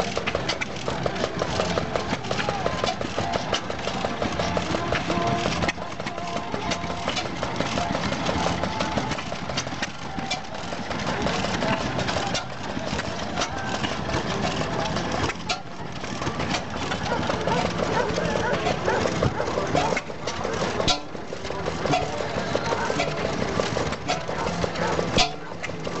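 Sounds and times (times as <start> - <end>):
stationary engine running: 0.0 - 26.0.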